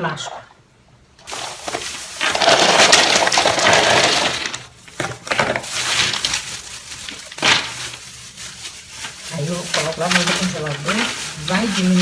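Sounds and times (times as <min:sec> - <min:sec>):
ice cubes rattling into plastic bag: 0:01.2 - 0:12.0.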